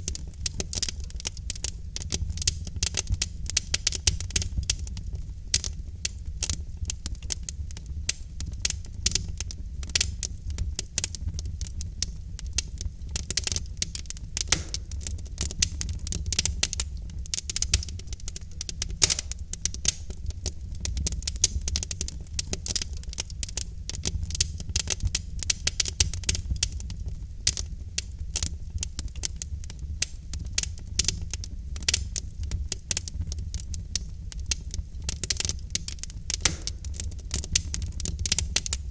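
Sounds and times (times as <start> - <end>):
low rumble of flame: 0.0 - 38.9
wood fire crackling: 0.0 - 38.9.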